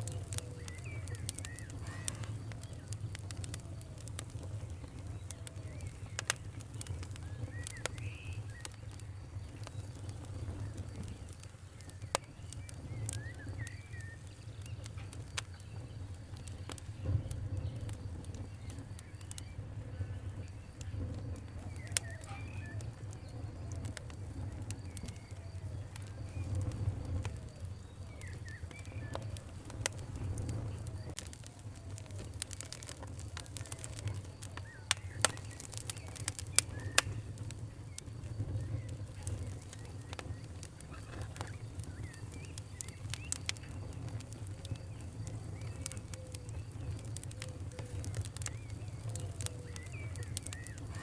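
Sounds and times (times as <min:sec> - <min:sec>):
faint birds calling: 0:00.0 - 0:51.0
fire crackling and popping: 0:00.0 - 0:51.0
low rumble of flames: 0:00.0 - 0:51.0.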